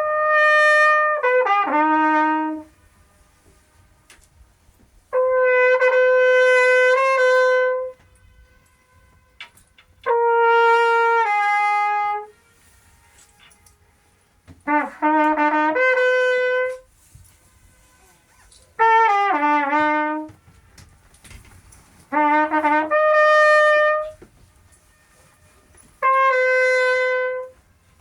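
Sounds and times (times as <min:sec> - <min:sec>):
brass horn melody: 0:00.0 - 0:28.0
faint horn echo: 0:00.0 - 0:28.0.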